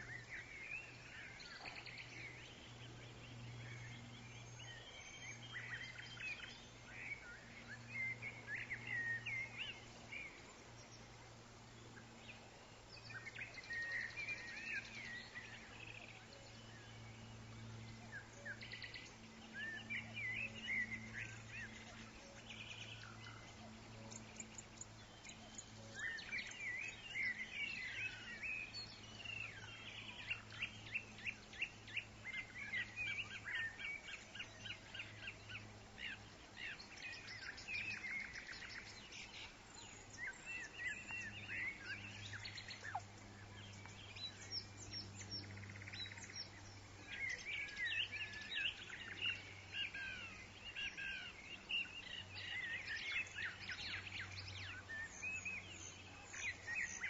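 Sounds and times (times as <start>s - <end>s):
birds chirping and twittering: 0.0s - 57.0s
steady low hum: 0.0s - 57.0s.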